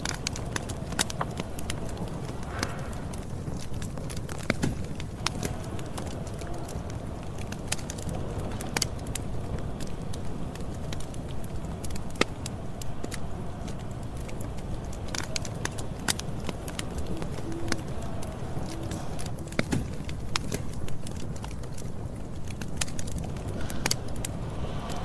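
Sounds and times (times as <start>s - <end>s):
burning wood crackling and popping: 0.0s - 25.0s
campfire flames rushing: 0.0s - 25.0s.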